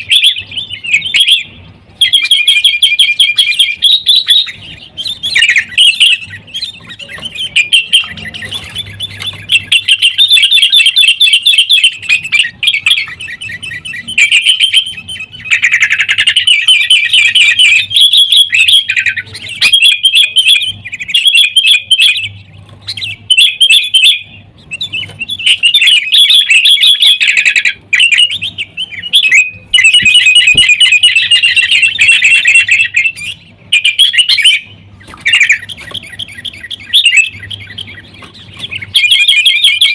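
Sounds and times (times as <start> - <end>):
bulbuls chattering calls: 0.0 - 39.9.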